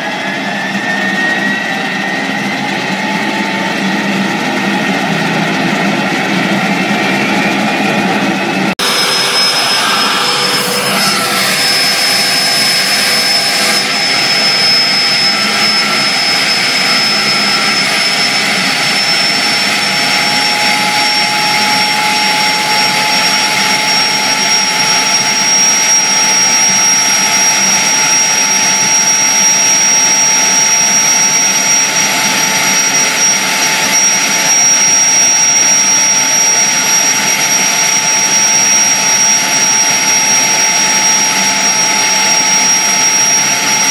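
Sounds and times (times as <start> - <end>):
jet engine roaring with whine: 0.0 - 43.9.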